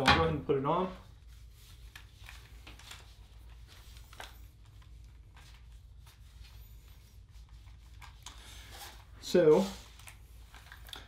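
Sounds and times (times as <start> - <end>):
rustles of strap and clothing: 1.0 - 11.0.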